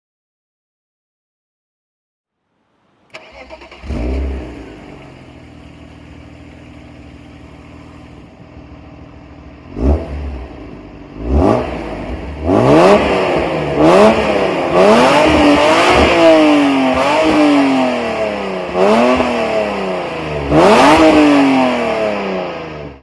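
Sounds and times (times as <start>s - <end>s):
car engine starting and revving: 3.1s - 23.0s.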